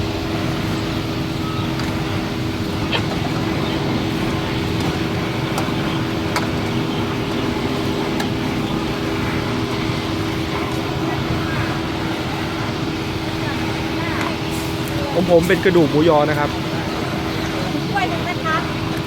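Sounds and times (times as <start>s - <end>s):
mechanical hum: 0.0s - 19.0s
rushing noise: 0.0s - 19.0s.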